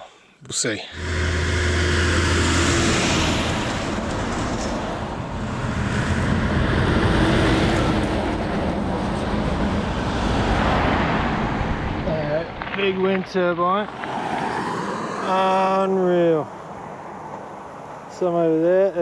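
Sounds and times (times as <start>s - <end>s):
highway traffic rushing past: 0.9s - 19.0s.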